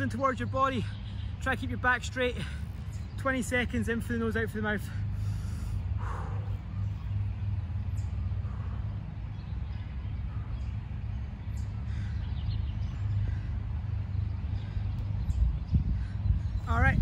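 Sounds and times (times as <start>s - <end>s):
low outdoor background rumble: 0.0s - 17.0s.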